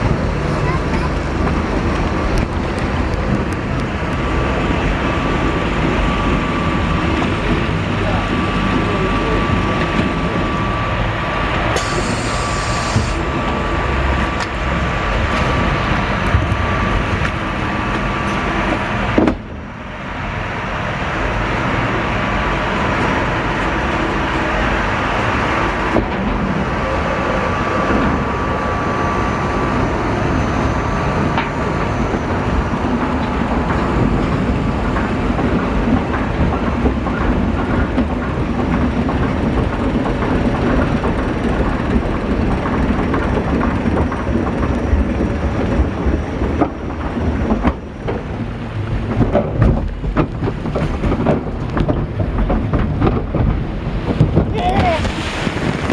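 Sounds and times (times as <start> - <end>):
water ride rushing noise: 0.0 - 55.9.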